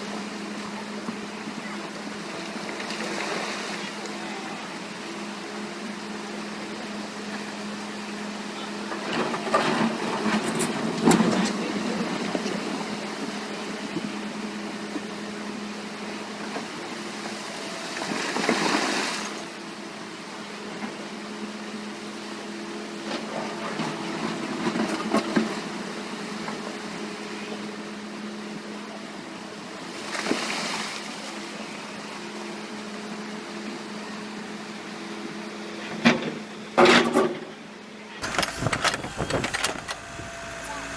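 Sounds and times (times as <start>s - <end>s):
excavator diesel engine running: 0.0s - 18.6s, 19.2s - 30.0s, 31.4s - 40.9s.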